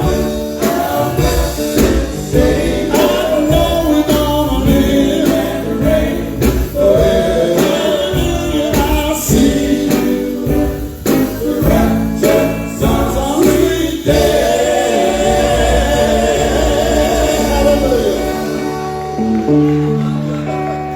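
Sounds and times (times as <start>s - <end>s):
heavy drum hits: 0.0s - 18.5s
male quartet singing: 0.0s - 19.3s
band playing: 0.0s - 20.9s.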